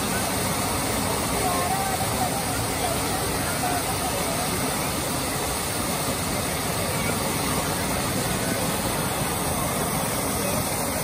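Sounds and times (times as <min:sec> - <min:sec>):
fountain water splashing into basin: 0:00.0 - 0:11.0.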